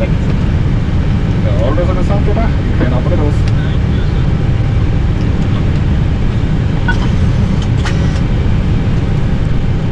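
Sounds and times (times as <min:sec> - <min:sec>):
cockpit low rumble and air noise: 0:00.0 - 0:09.9.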